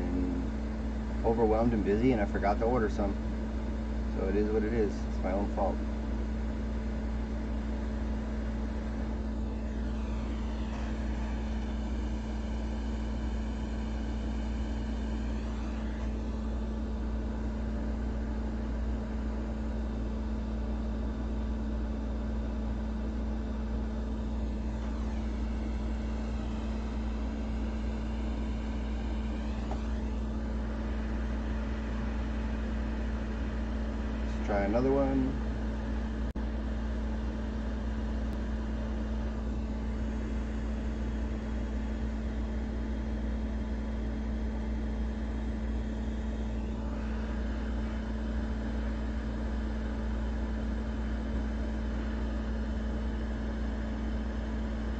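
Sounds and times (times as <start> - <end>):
constant low hum: 0.0 - 54.9
fan blowing: 0.0 - 54.9.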